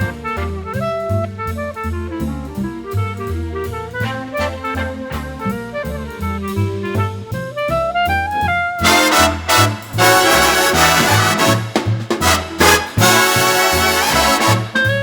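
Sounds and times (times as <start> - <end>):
drum kit keeping time: 0.0 - 15.0
horn playing melody: 0.0 - 15.0
walking bass: 0.0 - 15.0.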